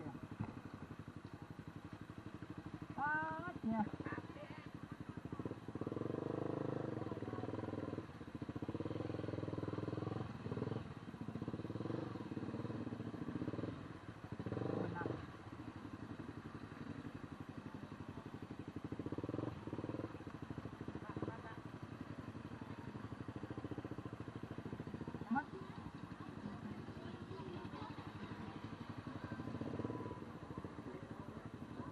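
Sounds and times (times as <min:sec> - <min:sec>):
small motorcycle engine running: 0:00.0 - 0:31.9.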